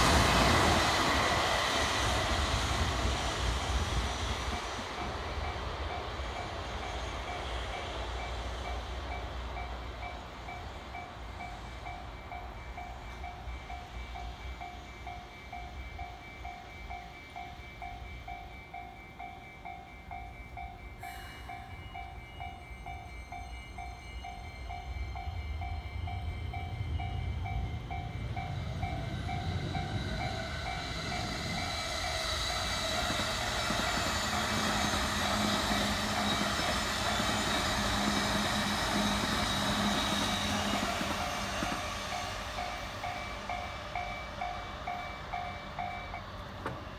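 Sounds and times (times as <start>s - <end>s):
train rumble and wheel noise: 0.0s - 46.9s
level crossing warning bells: 4.5s - 46.9s.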